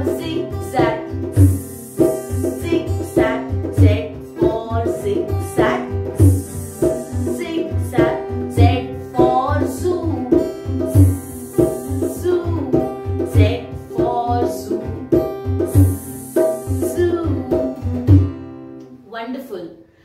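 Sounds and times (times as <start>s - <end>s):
upbeat children's music: 0.0s - 18.4s.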